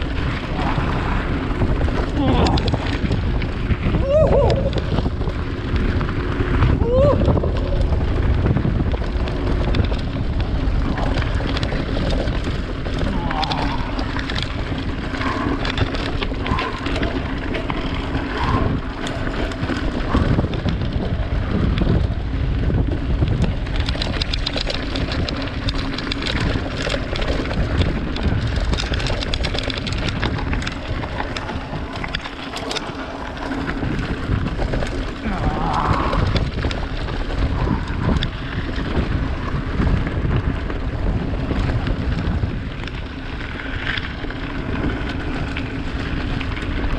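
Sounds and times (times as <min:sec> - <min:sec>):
tyres crunching over stones: 0:00.0 - 0:22.0, 0:22.7 - 0:46.9
bike rattling over bumps: 0:00.0 - 0:46.9
wind rumbling on microphone: 0:00.0 - 0:46.9.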